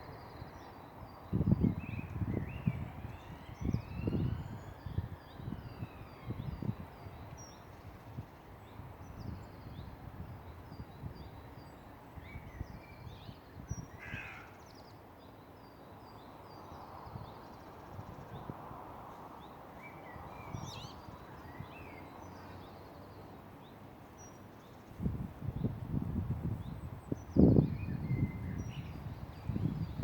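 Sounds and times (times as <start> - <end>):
songbirds chirping and trilling: 0.0 - 30.0.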